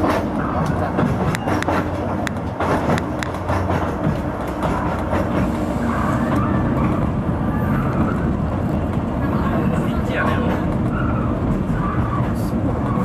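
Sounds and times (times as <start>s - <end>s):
train rumbling on track: 0.0s - 13.0s
train wheels clicking: 0.0s - 13.0s.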